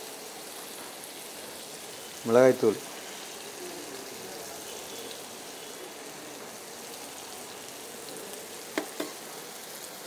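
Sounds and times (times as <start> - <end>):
vegetables frying in oil: 0.0 - 10.0.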